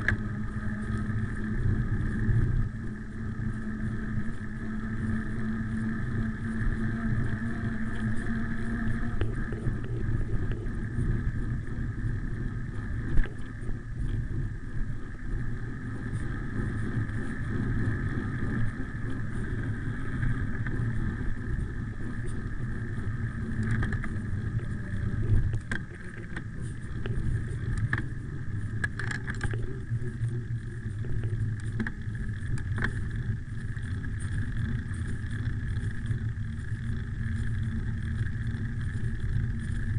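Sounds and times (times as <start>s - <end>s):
bicycle clicks and rattles: 0.0s - 39.9s
wind and tyre rumble: 0.0s - 39.9s.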